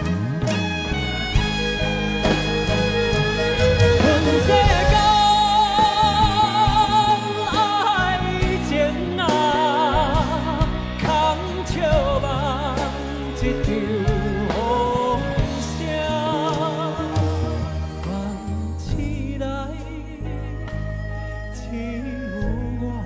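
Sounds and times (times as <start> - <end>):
live band accompaniment: 0.0 - 23.0
man singing a slow ballad: 4.0 - 23.0.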